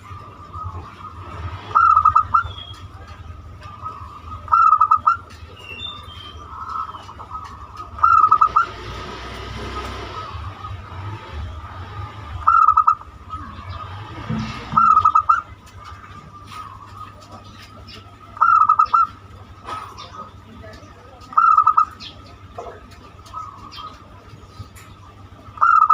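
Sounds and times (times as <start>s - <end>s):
faint bird chirps: 0.0s - 8.8s, 12.4s - 25.9s
dove cooing song: 0.0s - 25.9s.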